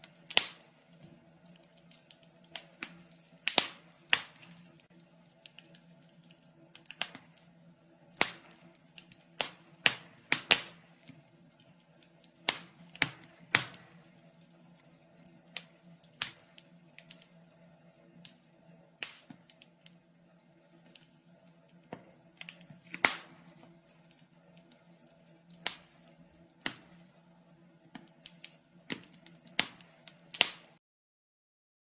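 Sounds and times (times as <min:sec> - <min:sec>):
fire crackling and popping: 0:00.0 - 0:30.8.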